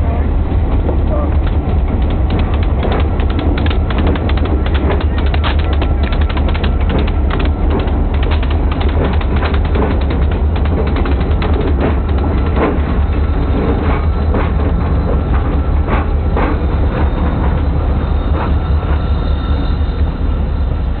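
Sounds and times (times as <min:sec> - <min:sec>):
freight train rumbling: 0:00.0 - 0:21.0
steel wheels clanking on rails: 0:00.0 - 0:21.0.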